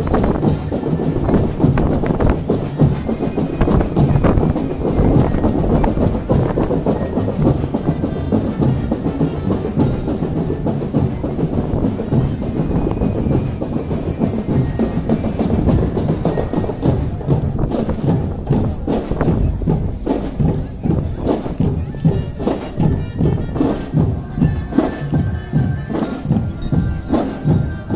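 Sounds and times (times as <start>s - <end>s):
marching drum band playing: 0.0s - 27.9s.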